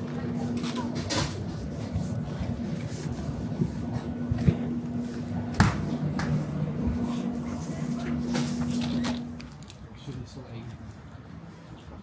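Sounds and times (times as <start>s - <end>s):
refrigerator hum: 0.0s - 10.5s.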